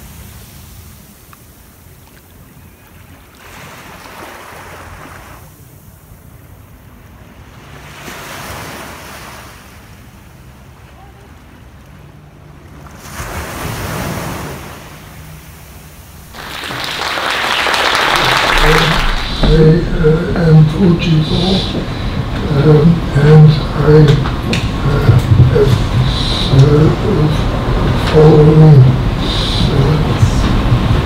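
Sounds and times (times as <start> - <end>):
low surf rumble: 0.0 - 8.0, 8.8 - 31.0
waves washing in: 0.0 - 31.0.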